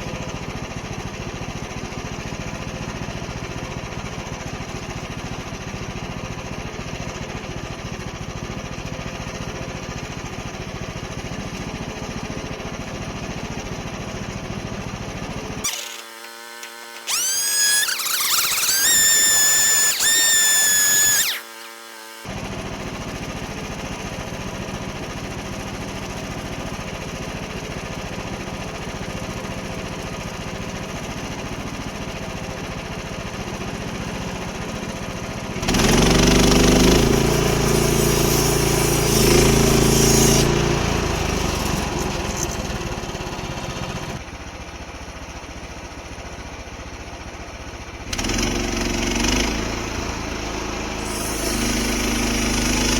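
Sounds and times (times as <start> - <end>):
sawmill gasoline engine running: 0.0 - 52.9.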